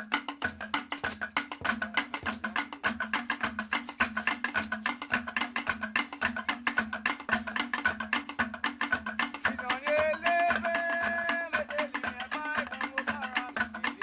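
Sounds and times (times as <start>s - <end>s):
shaker rattles: 0.0s - 14.0s.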